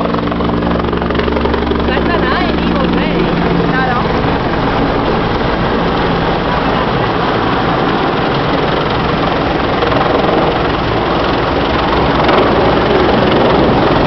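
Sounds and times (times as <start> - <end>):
helicopter rotor and engine: 0.0 - 14.0.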